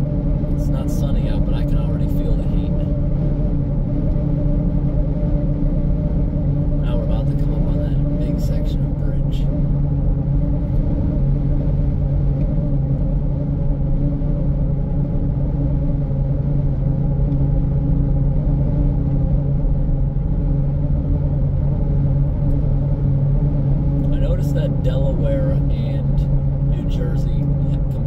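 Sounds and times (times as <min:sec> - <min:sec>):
car engine and tyre drone: 0:00.0 - 0:28.0
constant hum: 0:00.0 - 0:28.0.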